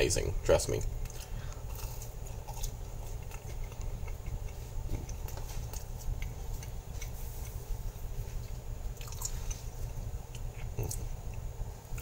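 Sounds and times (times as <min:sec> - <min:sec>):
low steady hum: 0:00.0 - 0:12.0
person chewing crunchy food: 0:00.7 - 0:12.0.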